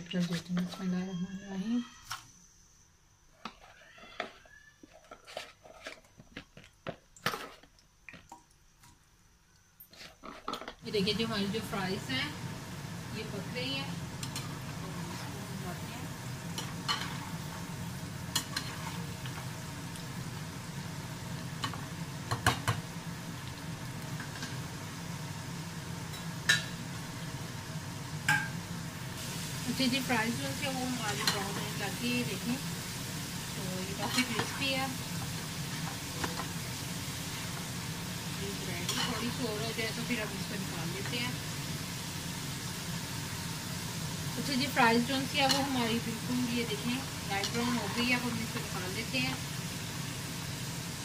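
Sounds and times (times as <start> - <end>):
oil crackling and popping: 4.8 - 13.0, 13.7 - 51.0.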